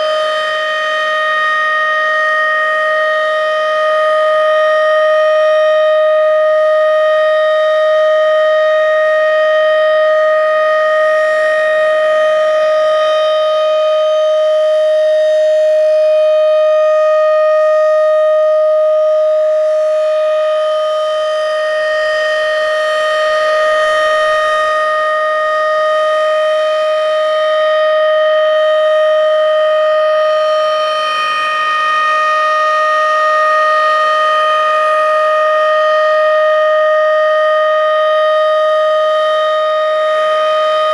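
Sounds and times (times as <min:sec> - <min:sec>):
electromechanical siren steady tone: 0:00.0 - 0:40.9.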